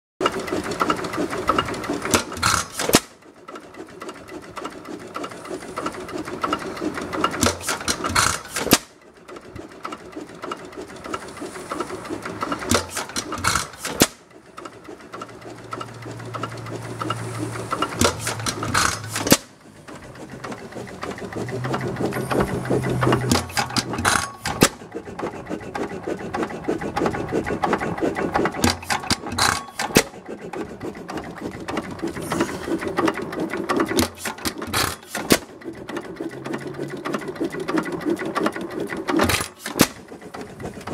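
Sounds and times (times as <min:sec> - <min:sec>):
engine firing strokes: 0:00.2 - 0:40.9
fast mechanical clatter: 0:00.2 - 0:40.9.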